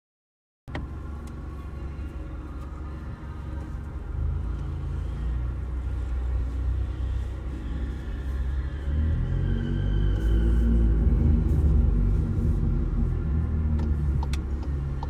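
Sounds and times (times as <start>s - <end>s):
car engine low rumble: 0.7s - 15.0s.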